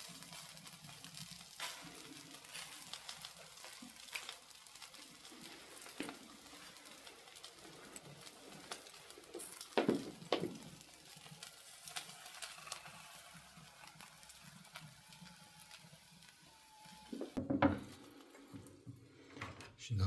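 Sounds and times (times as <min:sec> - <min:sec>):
faint sizzle: 0:00.0 - 0:20.0
wood fire crackling: 0:00.0 - 0:20.0.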